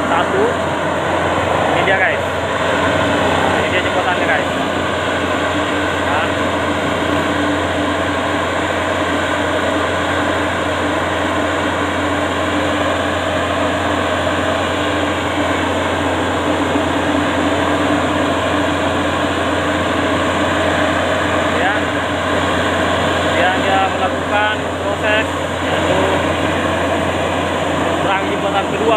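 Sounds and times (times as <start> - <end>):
diesel engine running steadily: 0.0 - 28.9.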